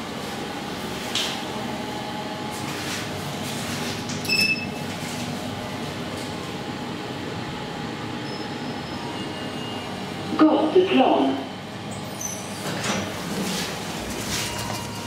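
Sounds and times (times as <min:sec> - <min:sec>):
elevator running rumble and hum: 0:00.0 - 0:15.0.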